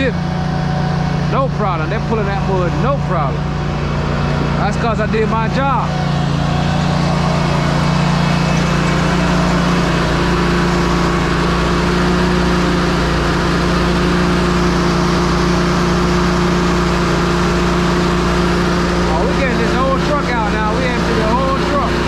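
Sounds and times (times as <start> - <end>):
concrete mixer truck drone: 0.0 - 22.0.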